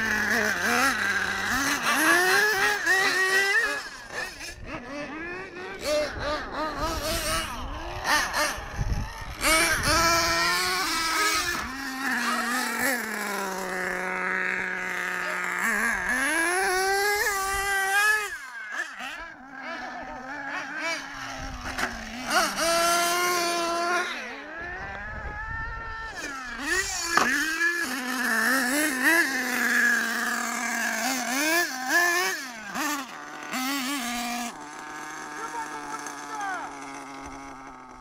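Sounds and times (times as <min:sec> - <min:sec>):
small nitro engines revving: 0:00.0 - 0:38.0.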